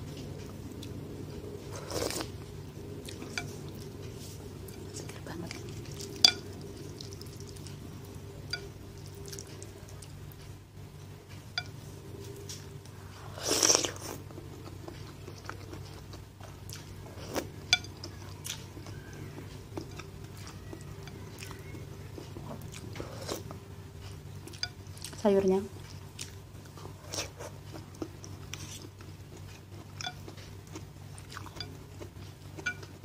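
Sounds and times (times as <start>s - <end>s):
steady low hum: 0.0s - 33.0s
chewing: 0.1s - 33.0s.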